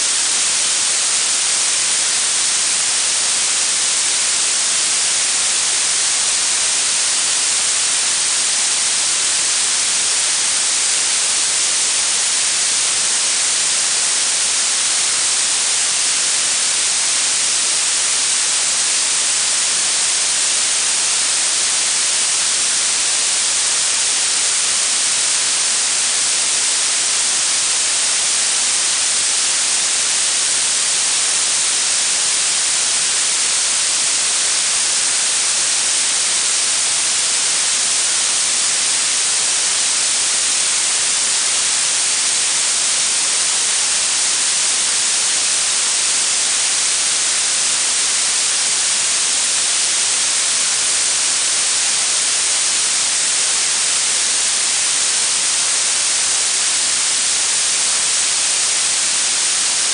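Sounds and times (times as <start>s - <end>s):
high-pitched steady hiss: 0.0s - 59.9s.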